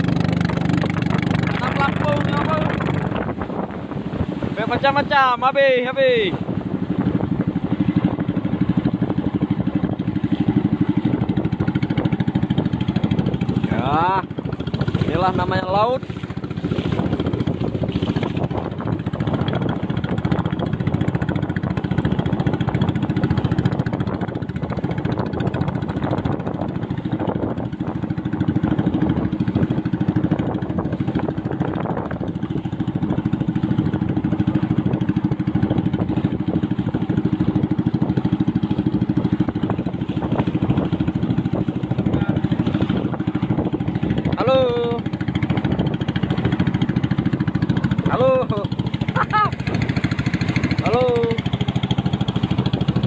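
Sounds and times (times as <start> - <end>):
boat engine puttering: 0.0 - 53.0
water rushing along hull: 0.0 - 53.0.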